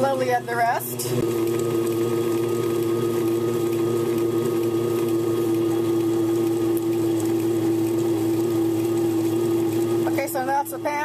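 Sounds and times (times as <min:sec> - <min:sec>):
stone grinder humming: 0:00.0 - 0:11.0.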